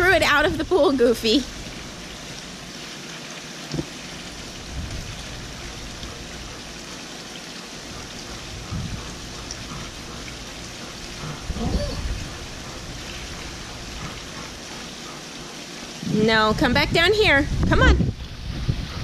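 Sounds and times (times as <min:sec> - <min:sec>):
water pouring into pool: 0:00.8 - 0:16.4.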